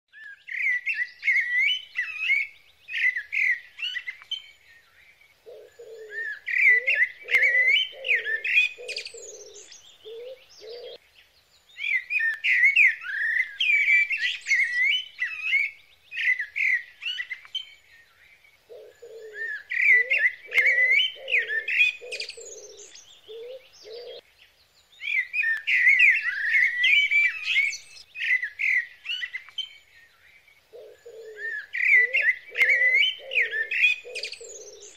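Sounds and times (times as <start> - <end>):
bird singing low notes: 0.1 - 34.9
songbirds chirping: 0.1 - 34.9.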